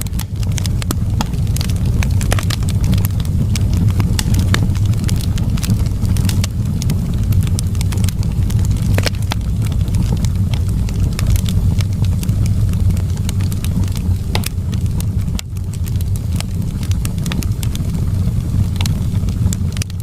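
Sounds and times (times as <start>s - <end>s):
low rumble of flames: 0.0s - 20.0s
wood crackling and popping: 0.0s - 20.0s.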